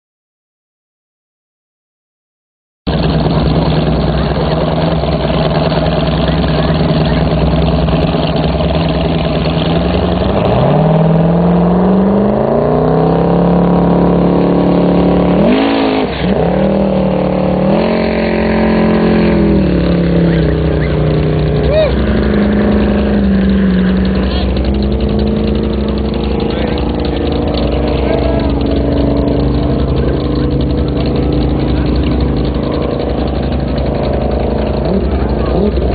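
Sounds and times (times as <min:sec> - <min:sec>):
boat engine running loudly: 0:02.9 - 0:35.9.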